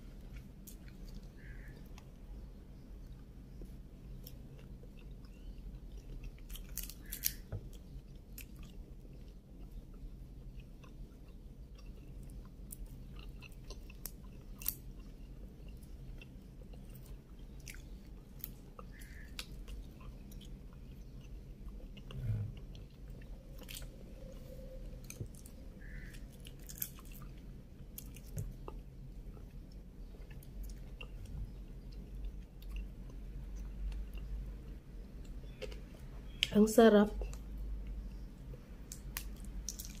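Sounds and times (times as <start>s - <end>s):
steady low hum: 0.0s - 40.0s
person chewing wetly: 3.0s - 36.4s, 37.3s - 40.0s.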